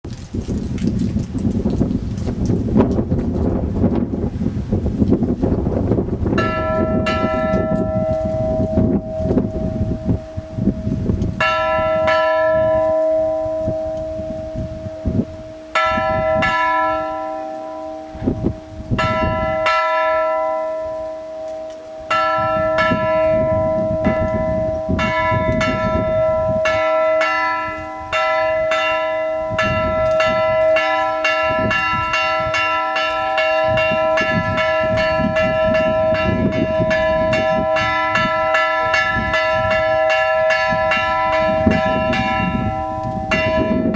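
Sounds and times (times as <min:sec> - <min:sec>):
church bells chiming: 0:06.4 - 0:43.9.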